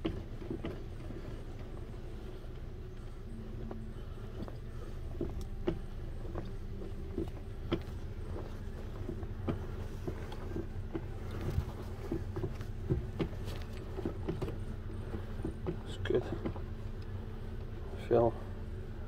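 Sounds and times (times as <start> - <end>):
clutch pedal clicks and knocks: 0.0 - 2.0, 2.6 - 18.4
steady low hum: 0.0 - 19.0.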